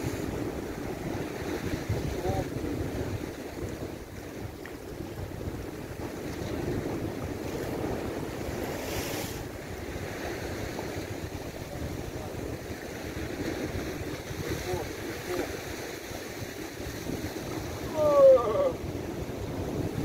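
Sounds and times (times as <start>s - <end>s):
surf washing against rocks: 0.0s - 20.0s
wind rumbling on microphone: 0.0s - 20.0s.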